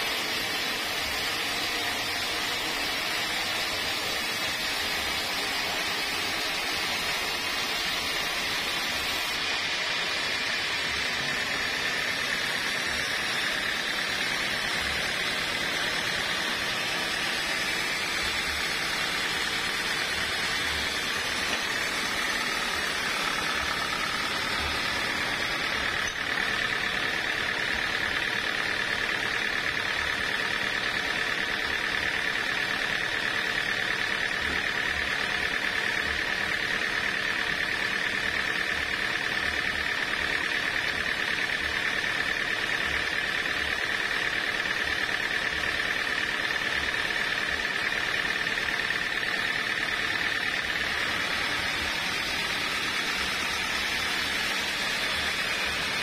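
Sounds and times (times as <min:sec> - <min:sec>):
band saw cutting through log: 0:00.0 - 0:56.0.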